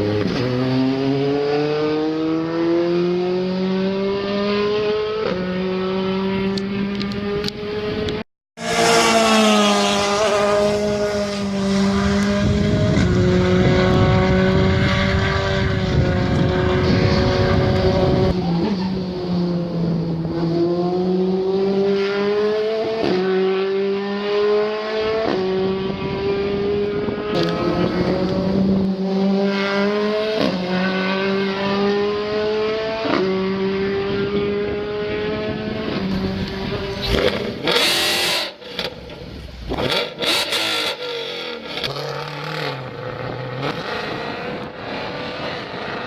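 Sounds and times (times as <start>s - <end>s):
racing car engine at high revs: 0.0s - 46.0s.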